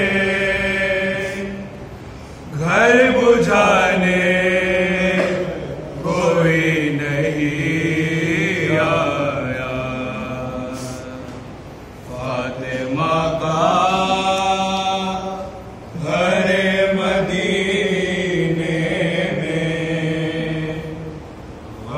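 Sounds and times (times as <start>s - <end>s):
man chanting unaccompanied: 2.5s - 11.4s, 12.1s - 21.1s.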